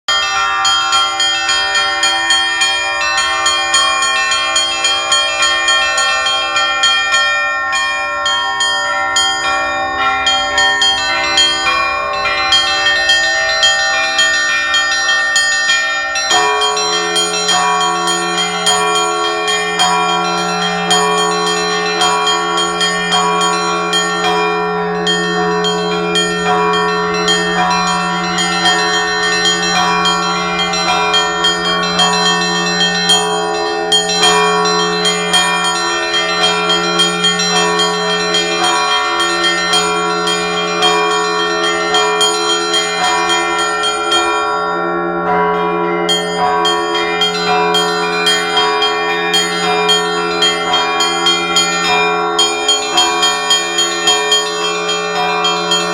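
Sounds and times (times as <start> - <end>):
church bells pealing: 0.1 - 55.9
deep humming bell: 0.1 - 55.9.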